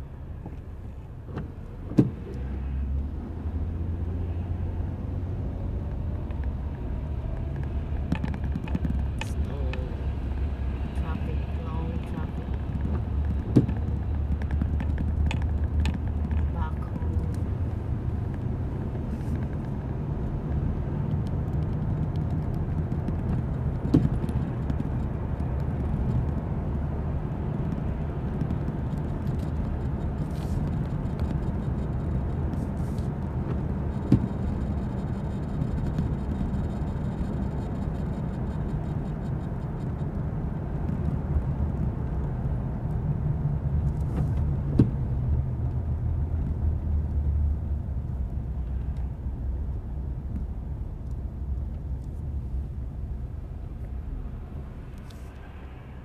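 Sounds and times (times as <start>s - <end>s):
car engine rumble: 0.0s - 56.0s
tyres on wet road: 0.0s - 56.0s.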